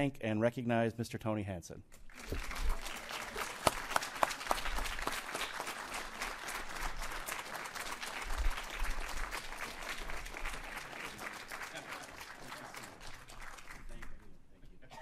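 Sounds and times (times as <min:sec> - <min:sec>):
audience applauding: 0:02.1 - 0:14.2.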